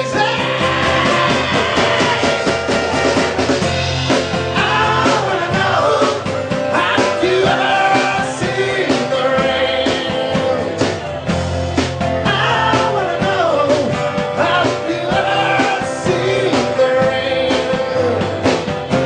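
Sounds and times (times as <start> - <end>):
man singing lead vocals: 0.0 - 3.1, 4.1 - 11.3, 12.1 - 19.0
drum kit steady beat: 0.0 - 19.0.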